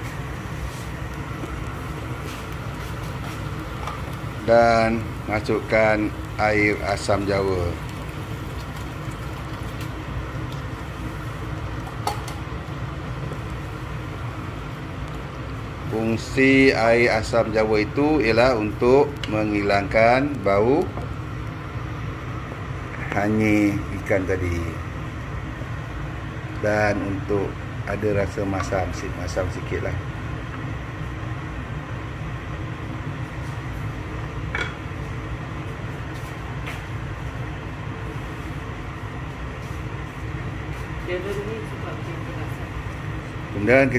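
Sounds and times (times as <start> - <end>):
gas hob rumbling: 0.0 - 43.9
low background hum: 0.0 - 43.9.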